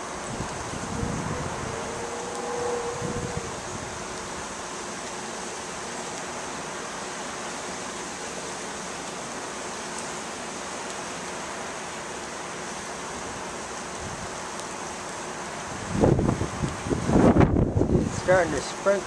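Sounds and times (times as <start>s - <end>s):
rushing outdoor ambience: 0.0s - 19.0s.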